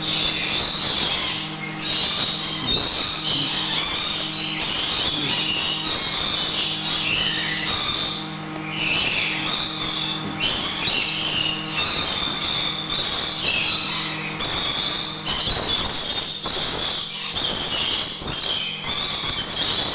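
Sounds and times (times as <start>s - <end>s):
steady low hum: 0.0s - 19.6s
lorikeets chattering and screeching: 0.0s - 19.9s.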